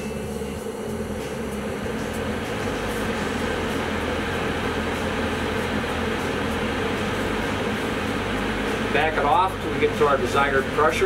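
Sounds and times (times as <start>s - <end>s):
gas furnace burners and fan rushing: 0.0s - 11.0s.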